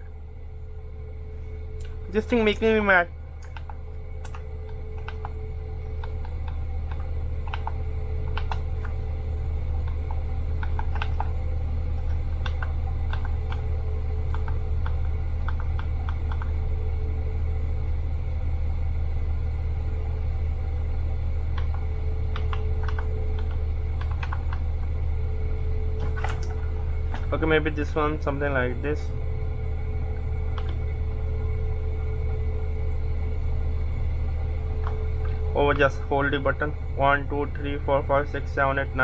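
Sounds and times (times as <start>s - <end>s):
low rumble: 0.0s - 39.0s.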